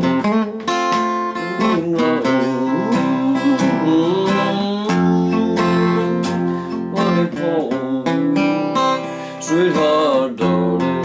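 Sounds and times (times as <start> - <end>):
acoustic guitar strumming: 0.0 - 11.0
person singing: 0.0 - 11.0.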